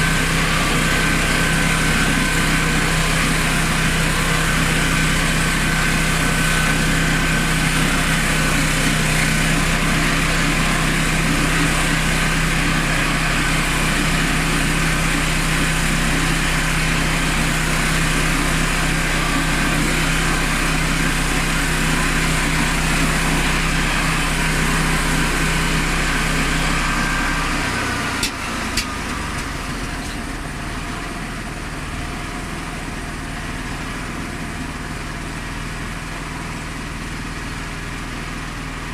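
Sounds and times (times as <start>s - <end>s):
petrol engine running: 0.0s - 38.9s
sawmill cutting log whine: 0.0s - 38.9s.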